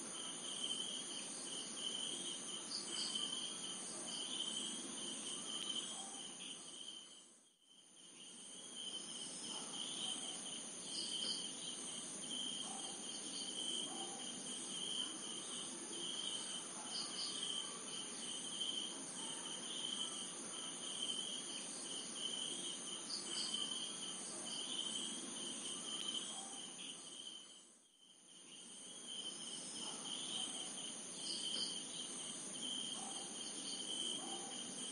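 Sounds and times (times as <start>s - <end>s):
night insects chirping: 0.0s - 34.9s.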